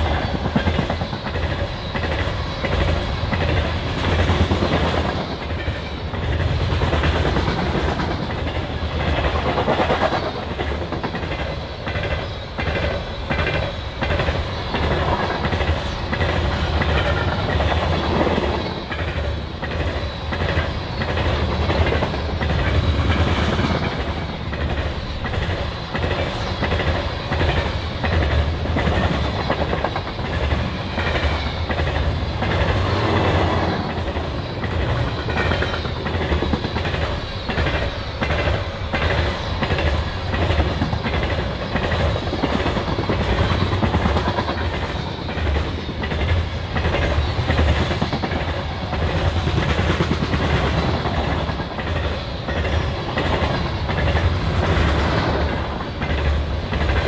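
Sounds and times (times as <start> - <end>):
train wheels rumbling on rail: 0.0 - 57.0
wheels clacking over rail joints: 0.0 - 57.0.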